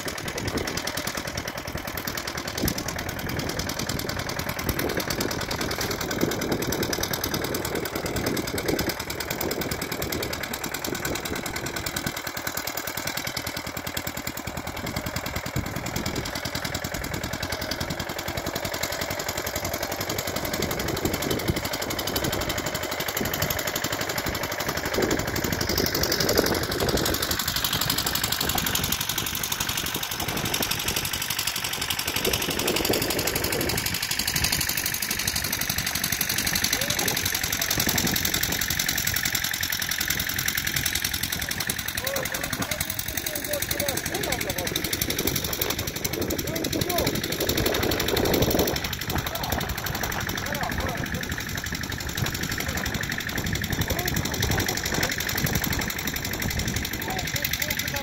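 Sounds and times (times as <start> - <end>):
tractor engine chugging: 0.0 - 58.0.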